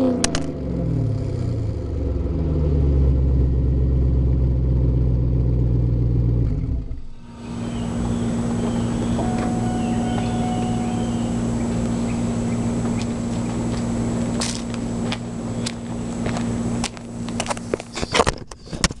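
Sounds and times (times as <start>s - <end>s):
car engine idling: 0.0s - 18.1s.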